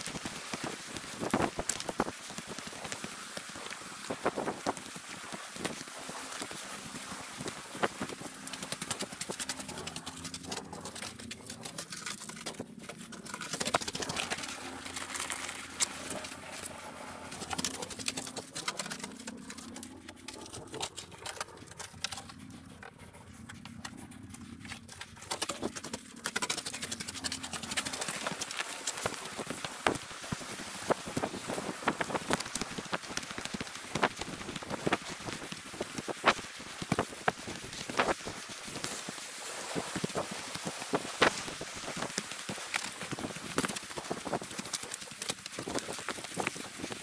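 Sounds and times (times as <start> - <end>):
footsteps on pebbles: 0.0 - 47.0
low hum: 0.3 - 39.0.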